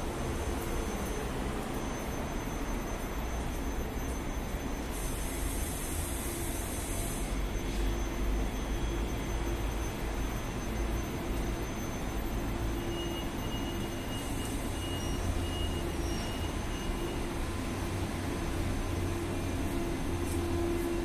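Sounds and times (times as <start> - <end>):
electric train rumble and hum: 0.0 - 21.0.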